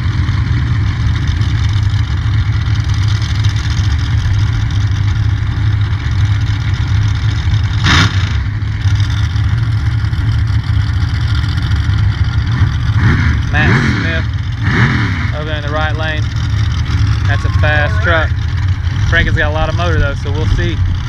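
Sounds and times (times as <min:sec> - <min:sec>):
truck engines rumbling: 0:00.0 - 0:21.0.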